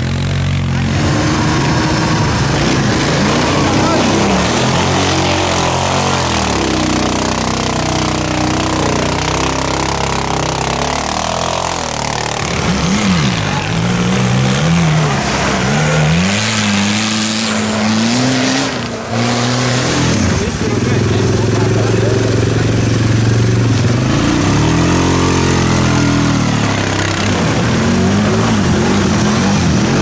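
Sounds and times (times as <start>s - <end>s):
low engine drone: 0.0s - 29.8s
engine revving: 0.0s - 30.0s.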